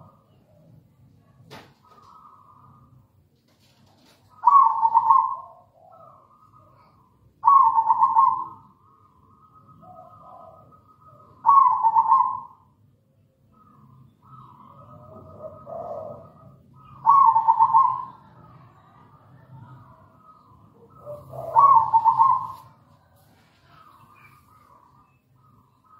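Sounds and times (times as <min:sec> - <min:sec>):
dove cooing: 0:00.0 - 0:12.7, 0:13.6 - 0:25.9.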